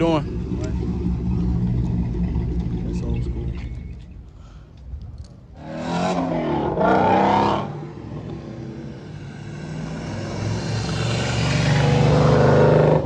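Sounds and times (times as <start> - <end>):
car engine revving: 0.0 - 4.2, 5.5 - 13.0
car approaching: 0.0 - 13.0.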